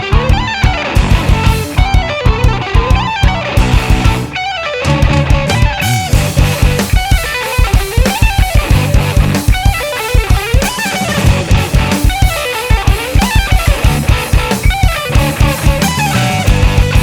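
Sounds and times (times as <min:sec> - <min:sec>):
electric guitar lines: 0:00.0 - 0:17.0
rapid drum kit hits: 0:00.0 - 0:17.0.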